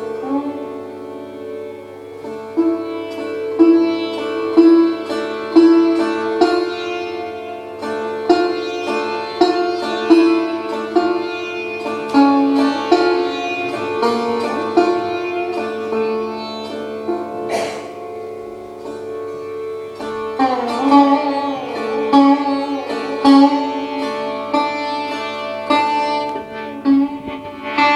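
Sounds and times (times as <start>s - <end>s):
sitar playing: 0.0s - 27.9s.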